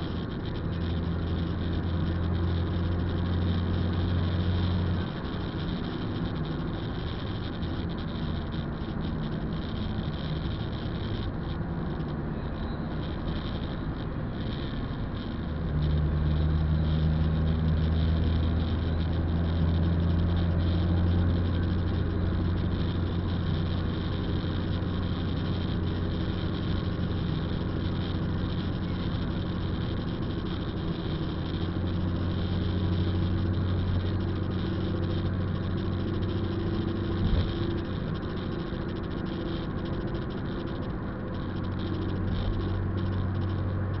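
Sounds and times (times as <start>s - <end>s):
vehicle engine hum from cabin: 0.0s - 44.0s.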